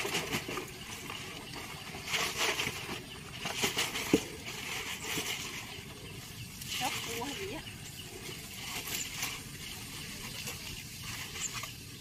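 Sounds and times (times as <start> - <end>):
wet net rustling: 0.0 - 12.0.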